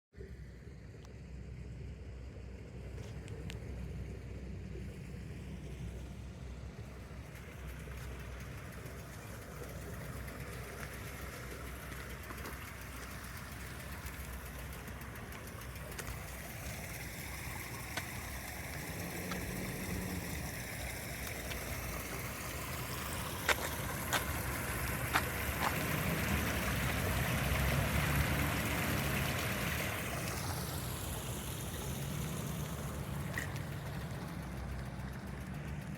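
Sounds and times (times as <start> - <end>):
road traffic rumble: 0.2 - 35.9
brook flowing: 2.9 - 35.9.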